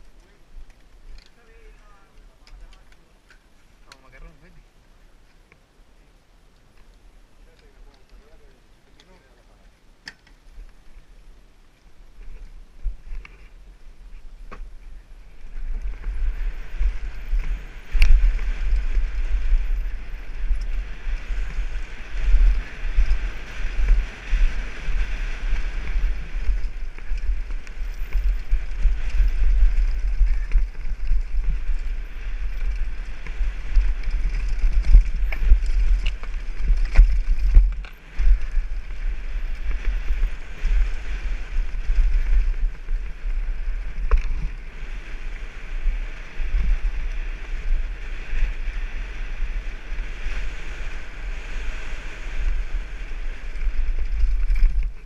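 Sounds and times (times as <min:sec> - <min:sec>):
bike rattling: 0:00.0 - 0:04.4, 0:06.3 - 0:55.0
bike tyres on gravel: 0:00.0 - 0:55.0
wind buffeting microphone: 0:10.4 - 0:55.0.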